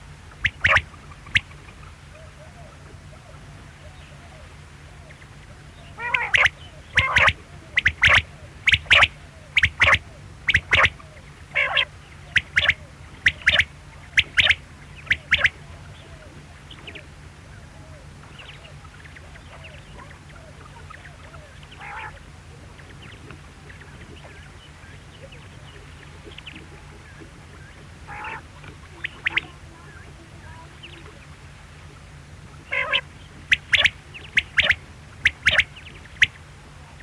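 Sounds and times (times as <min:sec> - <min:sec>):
quail calling: 0:00.0 - 0:22.3, 0:23.0 - 0:31.3, 0:31.9 - 0:36.4
low hum: 0:00.0 - 0:37.0.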